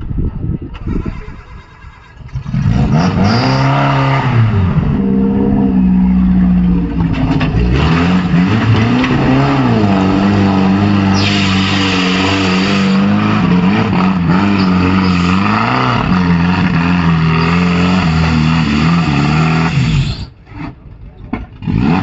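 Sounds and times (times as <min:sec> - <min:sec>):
engine revving hard: 0:02.3 - 0:20.3, 0:21.6 - 0:22.0.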